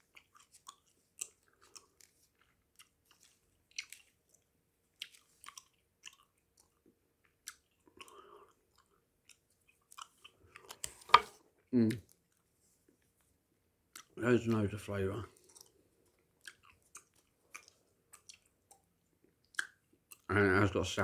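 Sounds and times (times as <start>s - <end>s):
gum chewing clicks and smacks: 0.0s - 14.7s, 15.3s - 20.4s.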